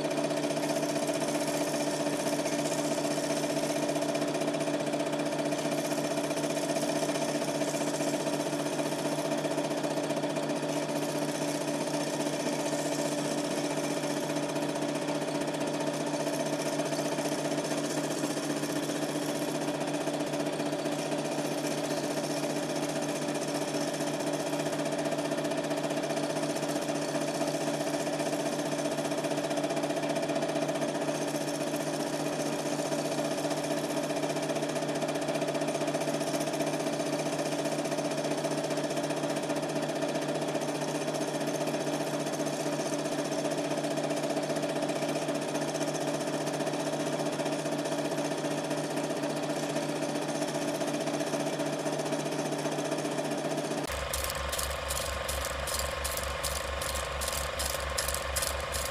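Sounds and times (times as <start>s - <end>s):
film projector whirring: 0.0s - 50.4s, 53.3s - 58.9s.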